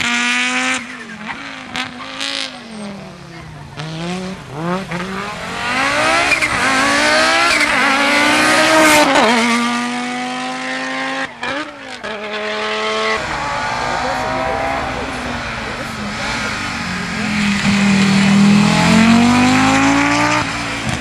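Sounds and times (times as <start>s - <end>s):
rally car engine accelerating: 0.0s - 21.0s.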